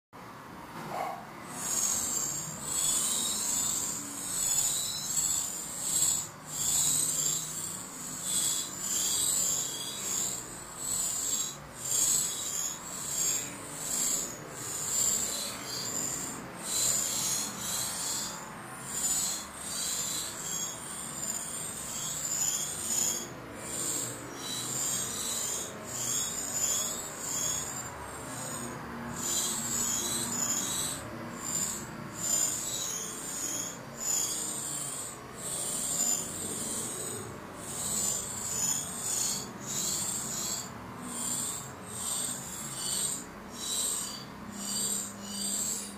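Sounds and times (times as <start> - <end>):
nestlings begging chorus: 1.4 - 45.9.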